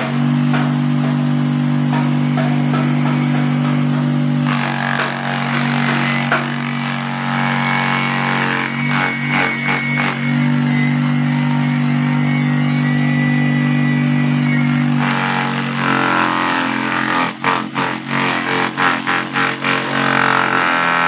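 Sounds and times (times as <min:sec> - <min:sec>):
grass being chopped: 0:00.0 - 0:12.2, 0:13.0 - 0:21.0
electric motor humming: 0:00.0 - 0:21.0.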